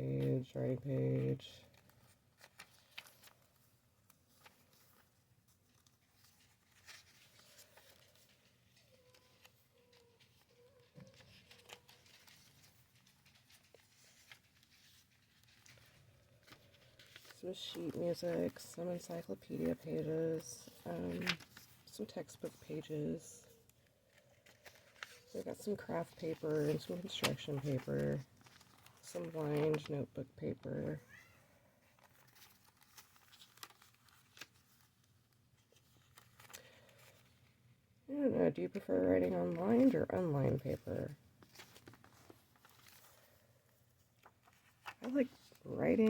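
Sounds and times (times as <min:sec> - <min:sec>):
paper pages rustling: 0:00.0 - 0:31.0, 0:31.6 - 0:37.6, 0:38.4 - 0:46.0.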